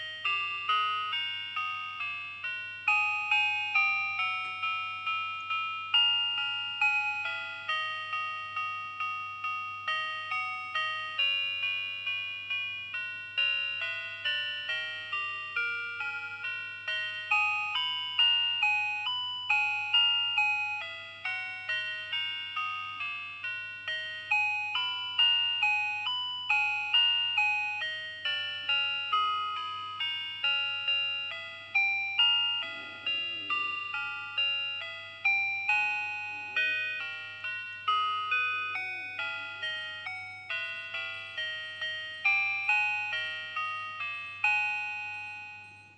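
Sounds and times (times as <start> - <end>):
electronic watch melody: 0.0 - 45.9.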